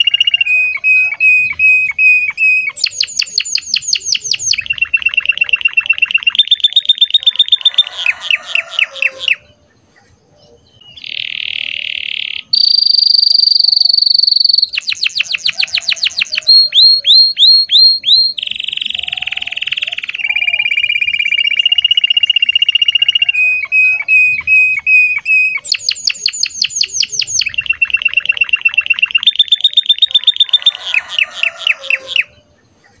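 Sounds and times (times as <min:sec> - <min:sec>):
canary singing: 0:00.0 - 0:33.0.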